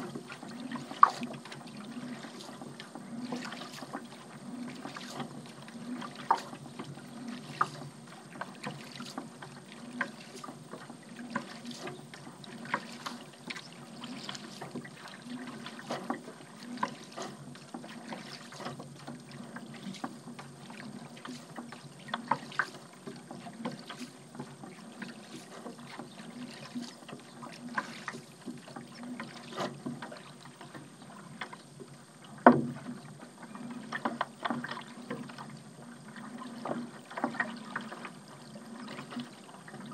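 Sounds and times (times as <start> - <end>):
paddle strokes splashing water: 0.0 - 39.9.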